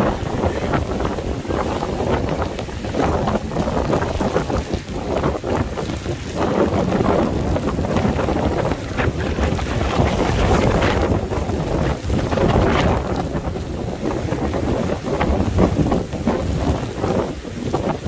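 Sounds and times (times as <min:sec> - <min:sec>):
heavy rain: 0:00.0 - 0:18.0
wind buffeting microphone: 0:00.0 - 0:18.0.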